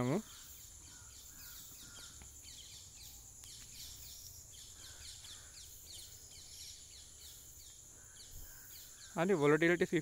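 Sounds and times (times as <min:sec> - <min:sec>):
steady high-pitched hiss: 0:00.0 - 0:10.0.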